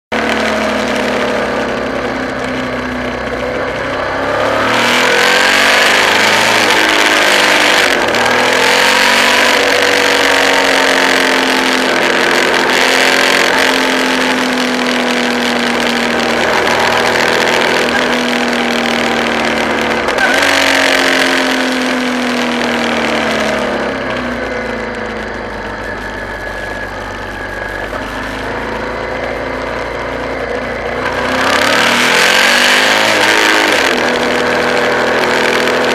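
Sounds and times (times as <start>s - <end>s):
motorcycle engine accelerating: 0.1s - 35.9s
wind and road rush: 0.1s - 35.9s.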